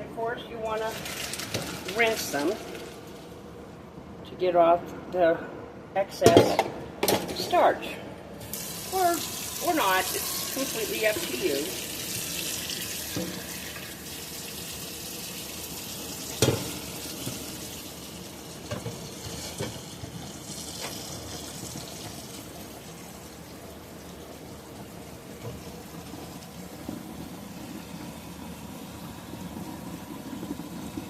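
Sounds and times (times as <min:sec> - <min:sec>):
kitchen faucet running: 0:00.7 - 0:03.4, 0:08.4 - 0:31.0.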